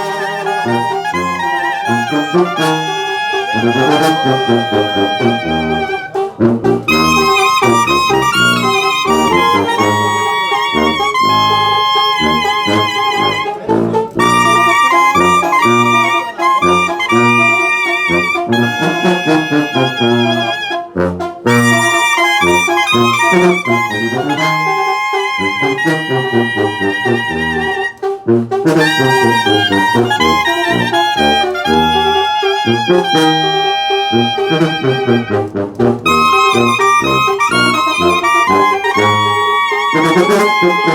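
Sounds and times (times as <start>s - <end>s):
bouncing bass line: 0.0s - 40.9s
trumpets and trombones: 0.0s - 40.9s.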